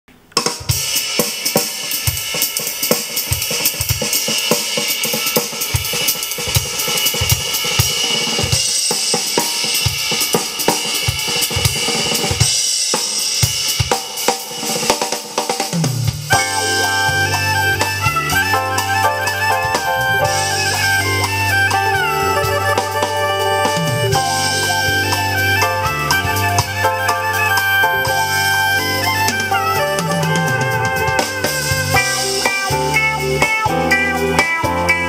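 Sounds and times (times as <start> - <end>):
drum kit playing over loudspeakers: 0.1 - 35.0.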